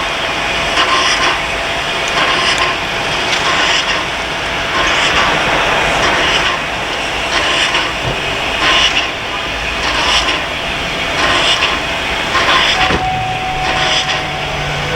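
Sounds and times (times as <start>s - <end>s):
passenger train rumbling on track: 0.0s - 14.9s.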